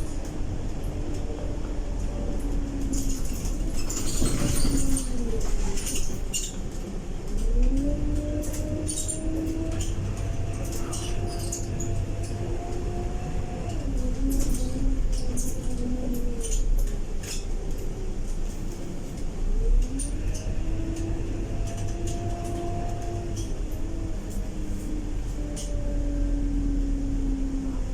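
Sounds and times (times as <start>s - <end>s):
bus drivetrain whine: 0.0s - 27.9s
low engine rumble: 0.0s - 27.9s.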